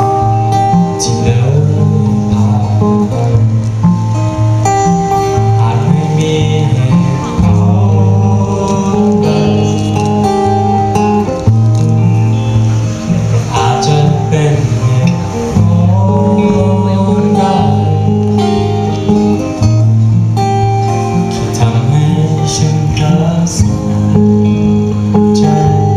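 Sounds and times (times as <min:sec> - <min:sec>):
strummed acoustic guitar: 0:00.0 - 0:25.9.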